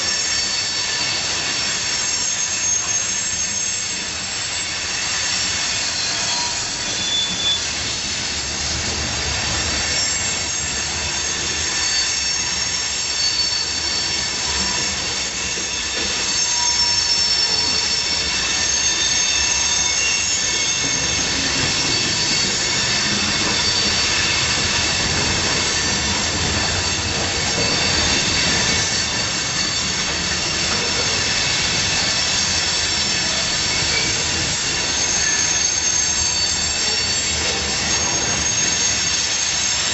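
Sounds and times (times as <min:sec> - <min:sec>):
rumble of freight cars rolling: 0:00.0 - 0:39.9
train wheels screeching: 0:00.0 - 0:39.9.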